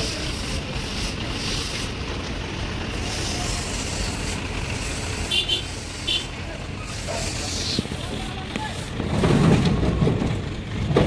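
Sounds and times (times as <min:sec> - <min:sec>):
heavy machinery rumbling: 0:00.0 - 0:11.0.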